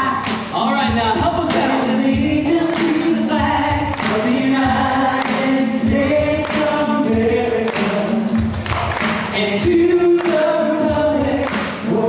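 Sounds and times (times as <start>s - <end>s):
musical backing: 0.0s - 12.0s
choir singing: 1.2s - 8.5s, 9.4s - 12.0s.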